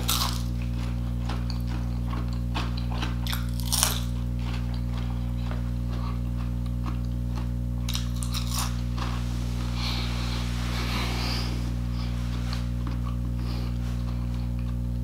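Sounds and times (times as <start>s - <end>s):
crunching and chewing: 0.0s - 15.0s
low hum: 0.0s - 15.0s.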